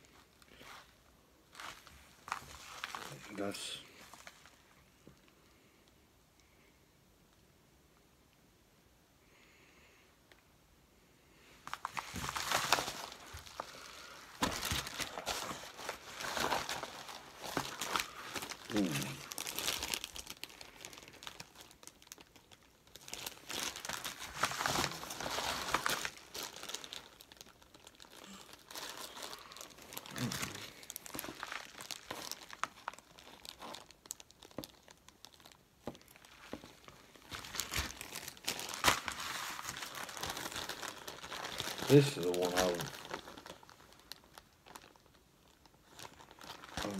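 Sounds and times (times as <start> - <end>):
plastic bags crinkling: 0.1 - 5.2, 11.6 - 46.9.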